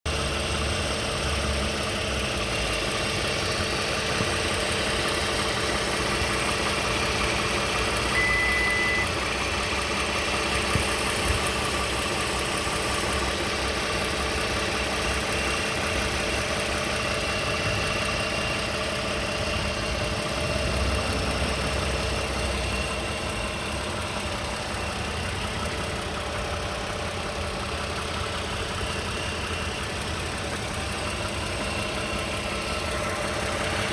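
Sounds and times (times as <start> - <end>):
car engine running with rattle: 0.1 - 33.9.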